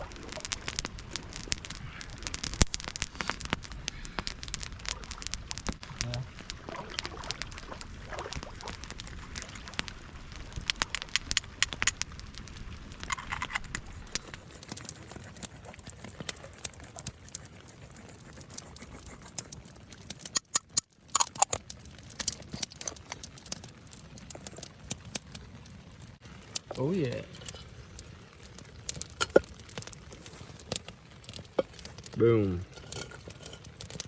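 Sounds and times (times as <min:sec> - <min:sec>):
rain pattering: 0:00.0 - 0:34.0
wet campfire crackling: 0:00.0 - 0:34.0.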